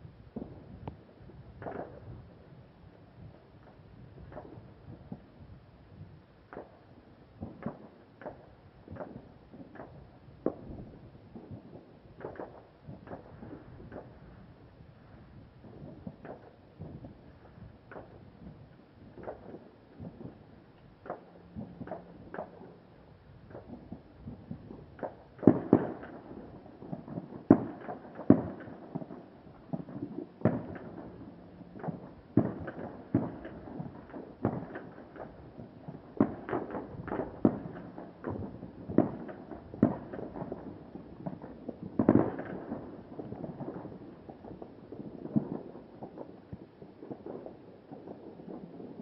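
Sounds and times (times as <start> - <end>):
distant fireworks bangs: 0.3 - 2.5, 3.2 - 5.5, 6.4 - 14.4, 15.5 - 49.0.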